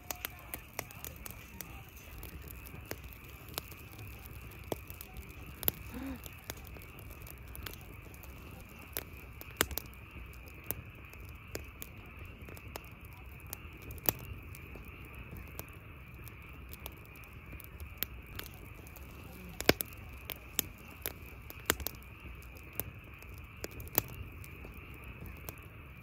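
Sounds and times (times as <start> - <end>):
campfire crackling: 0.0 - 26.0
sharp pops of fire: 0.0 - 26.0.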